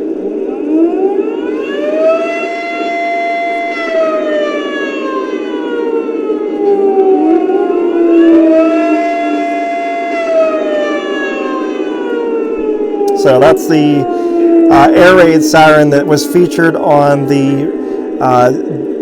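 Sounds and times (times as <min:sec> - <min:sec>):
air raid siren: 0:00.0 - 0:19.0
steady low drone: 0:00.0 - 0:19.0.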